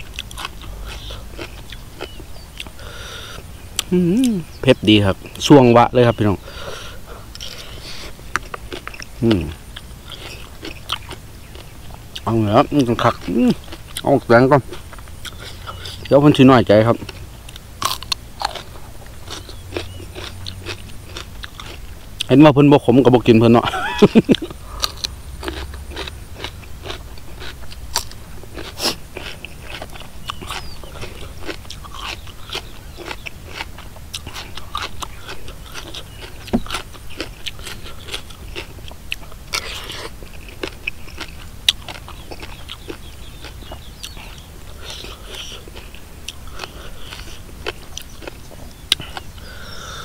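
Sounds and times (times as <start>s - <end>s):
crunchy chewing: 0.0s - 50.0s
mouth sounds: 0.1s - 40.2s, 41.2s - 50.0s.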